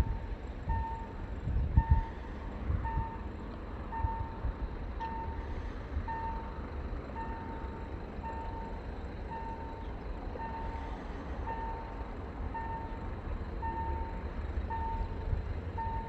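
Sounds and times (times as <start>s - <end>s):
low gusty rumble: 0.0s - 16.0s.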